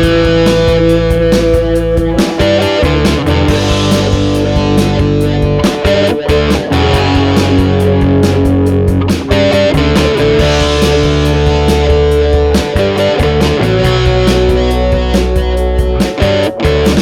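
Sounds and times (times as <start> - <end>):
distorted electric guitar: 0.0 - 17.0
steady drum beat: 0.0 - 17.0.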